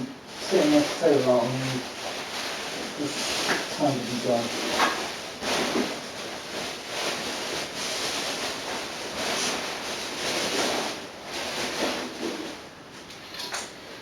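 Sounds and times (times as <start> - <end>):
packaging rustling: 0.3 - 12.7.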